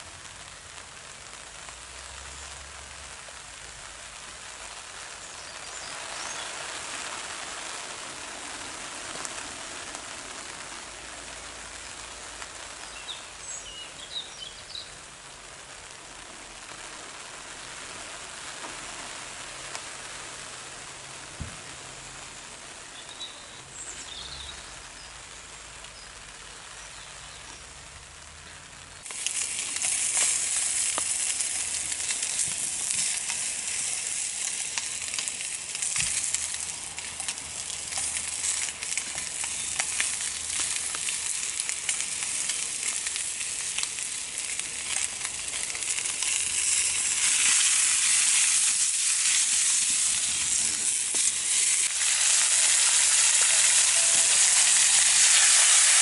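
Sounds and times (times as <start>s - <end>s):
meat sizzling in a pan: 0.0s - 23.2s, 29.0s - 56.0s
fire crackling: 0.0s - 56.0s.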